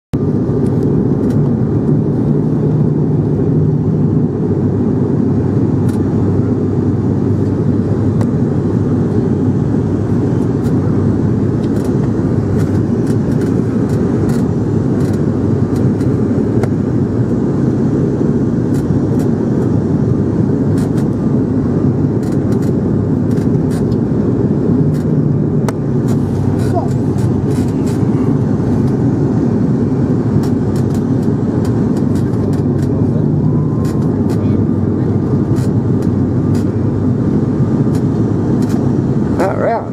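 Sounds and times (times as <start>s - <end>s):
airliner engine drone: 0.1s - 39.9s
low hum: 0.1s - 39.9s.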